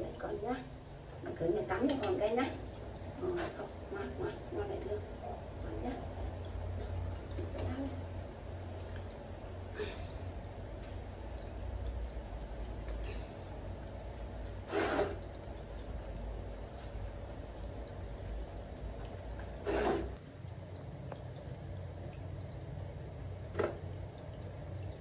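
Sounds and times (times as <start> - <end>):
water trickling and dripping: 0.0 - 25.0.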